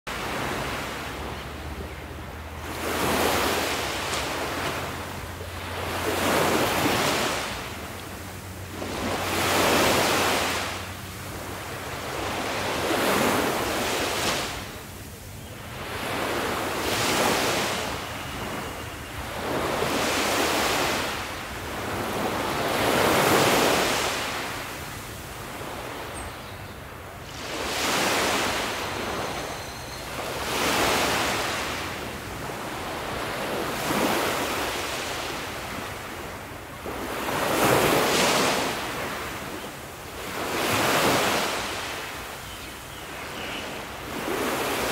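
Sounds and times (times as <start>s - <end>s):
ocean waves breaking: 0.1s - 44.9s.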